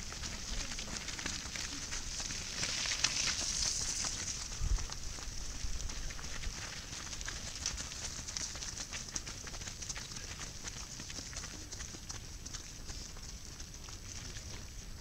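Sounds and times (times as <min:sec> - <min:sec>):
footsteps crunching on wet gravel: 0:00.0 - 0:15.0.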